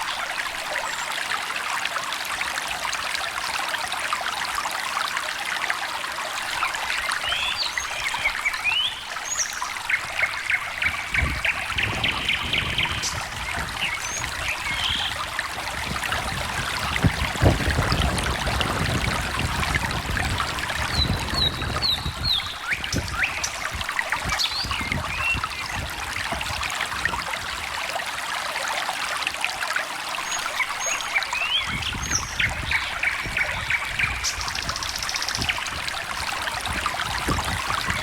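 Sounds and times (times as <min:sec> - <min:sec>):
small stream trickling and gurgling: 0:00.0 - 0:38.0.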